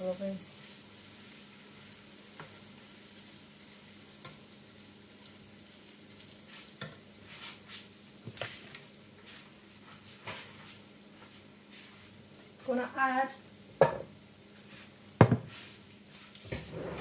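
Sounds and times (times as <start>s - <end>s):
tofu frying in a pan: 0.0s - 16.7s.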